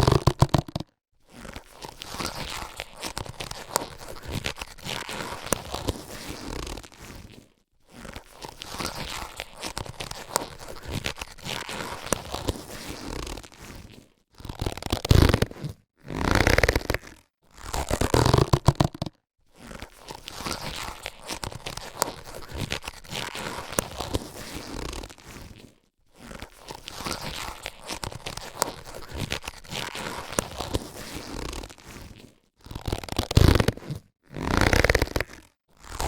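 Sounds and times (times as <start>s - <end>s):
latex gloves rubbing and crinkling: 0.0s - 36.0s.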